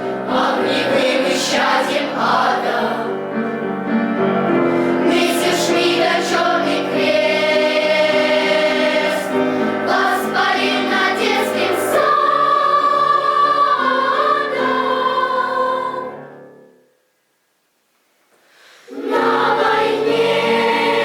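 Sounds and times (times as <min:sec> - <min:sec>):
children's choir singing: 0:00.0 - 0:03.4, 0:05.0 - 0:16.8, 0:18.9 - 0:21.0
piano accompaniment: 0:00.0 - 0:16.8, 0:18.9 - 0:21.0.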